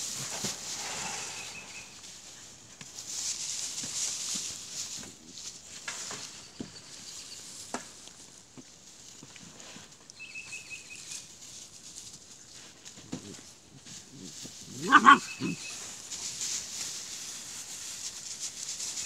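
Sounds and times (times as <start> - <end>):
straw rustling and crackling: 0.0 - 19.0.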